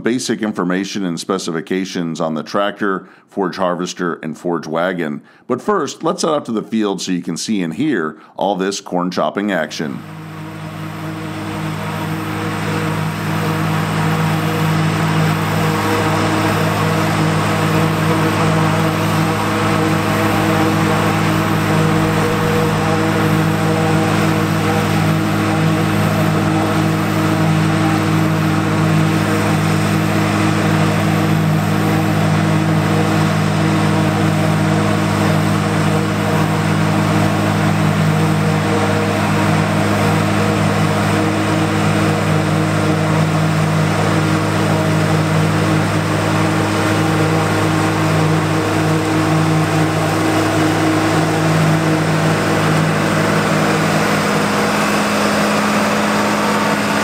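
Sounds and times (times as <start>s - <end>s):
forage chopper hissing and whirring: 10.0s - 57.0s
tractor diesel engine running: 10.0s - 57.0s.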